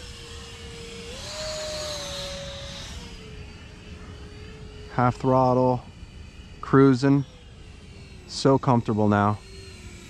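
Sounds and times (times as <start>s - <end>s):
model jet electric motor whining: 0.0s - 10.0s.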